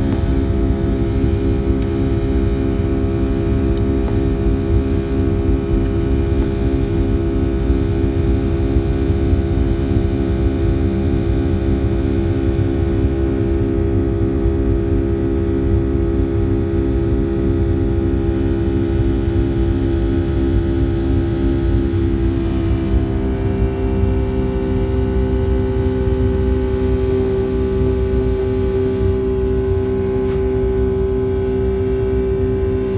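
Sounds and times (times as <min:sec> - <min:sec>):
jet engines droning: 0:00.0 - 0:10.3, 0:16.6 - 0:32.9
throbbing hum: 0:00.0 - 0:32.9.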